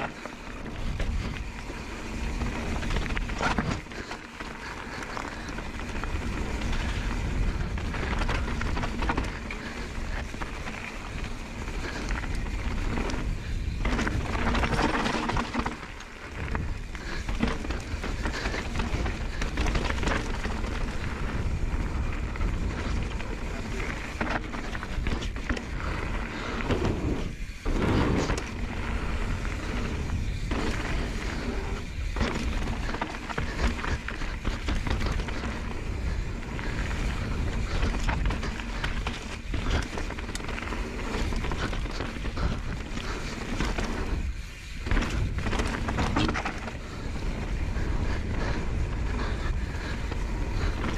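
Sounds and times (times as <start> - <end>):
bike rattling: 0.0 - 50.9
tyres rolling over stones: 0.0 - 50.9.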